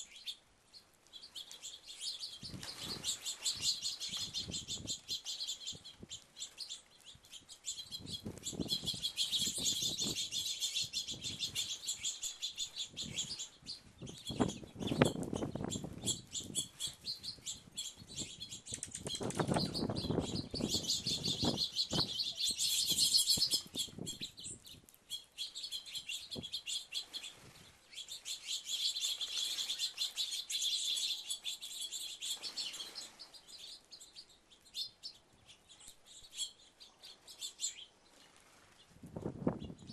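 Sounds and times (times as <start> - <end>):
songbirds chirping: 0.0 - 39.9
wings fluttering: 1.0 - 33.8, 37.2 - 39.9.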